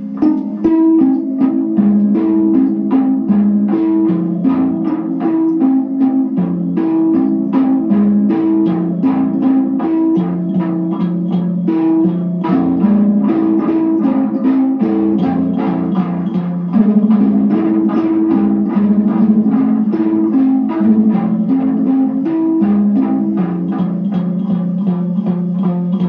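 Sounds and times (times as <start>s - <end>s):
amplified kalimba plucked: 0.0s - 26.0s.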